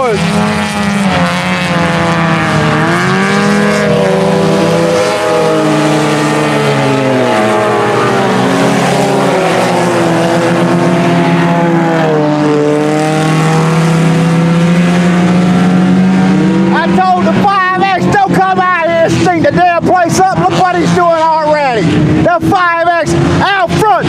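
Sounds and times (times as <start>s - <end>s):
race car engines running hard: 0.0s - 24.0s.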